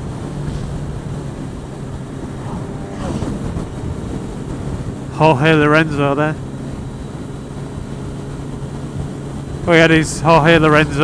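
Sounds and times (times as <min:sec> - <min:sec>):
wind noise on microphone: 0:00.0 - 0:09.6
motorcycle engine running: 0:00.0 - 0:11.0.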